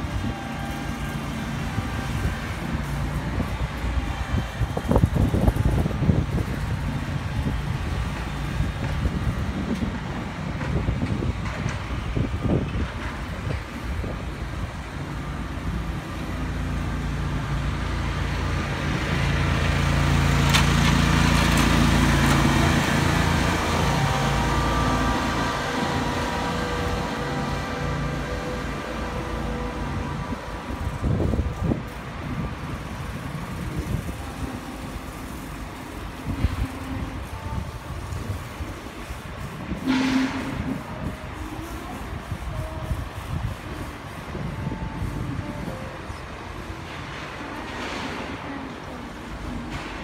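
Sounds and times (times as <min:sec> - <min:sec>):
wind on microphone: 0:00.0 - 0:20.0, 0:21.9 - 0:50.0
small vehicle engine running: 0:00.0 - 0:50.0.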